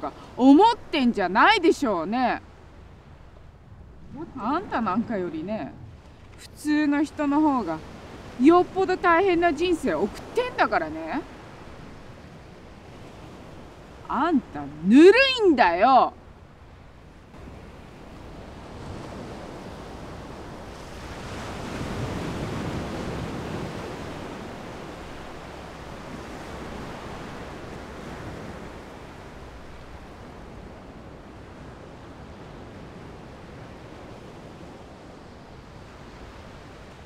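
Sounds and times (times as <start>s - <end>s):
sea waves washing onto beach: 0.0s - 37.0s
wind: 0.0s - 37.0s.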